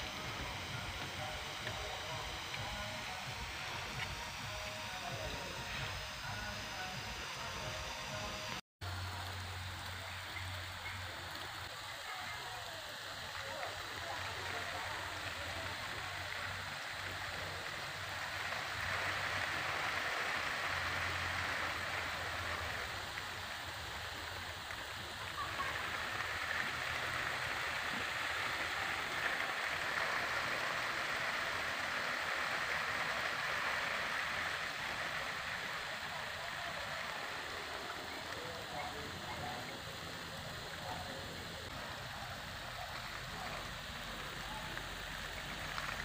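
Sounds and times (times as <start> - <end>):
sprinkler water spraying: 0.0 - 46.0.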